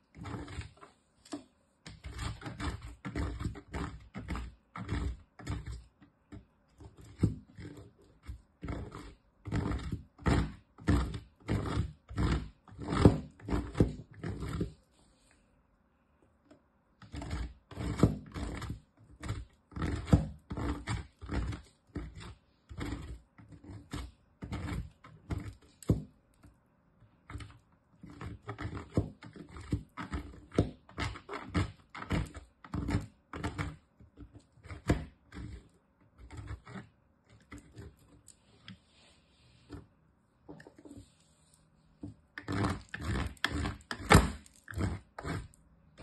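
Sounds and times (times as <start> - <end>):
soap grated on metal grater: 0.0 - 1.0, 1.9 - 14.8, 17.0 - 25.9, 27.2 - 38.8, 42.3 - 45.6.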